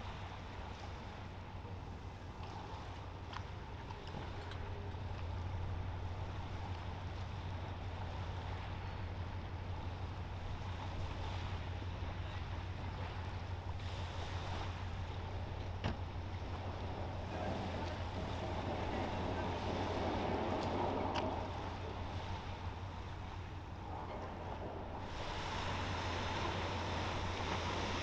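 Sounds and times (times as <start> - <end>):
ship engine drone: 0.0 - 28.0
water rushing: 0.0 - 28.0
wind: 0.0 - 28.0.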